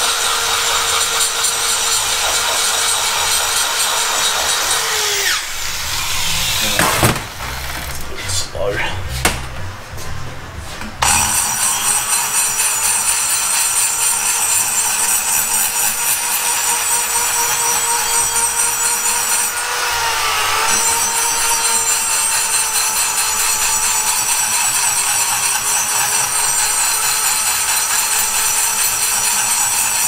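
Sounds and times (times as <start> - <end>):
rotary grinder running: 0.0 - 8.0, 11.0 - 30.0.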